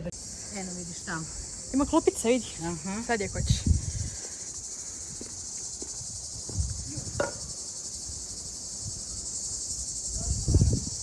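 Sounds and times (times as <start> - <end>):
shrill insect chorus: 0.0 - 11.0.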